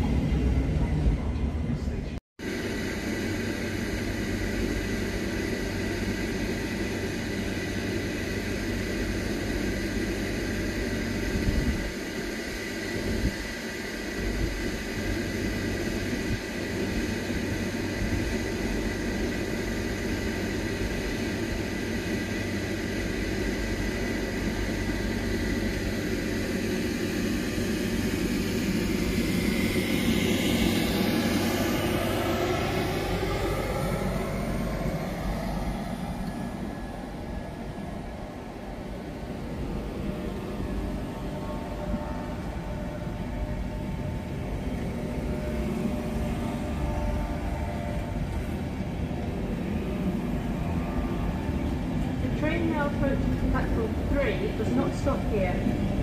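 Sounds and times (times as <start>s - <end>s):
high steady whine: 0.0s - 56.0s
train running: 0.0s - 56.0s.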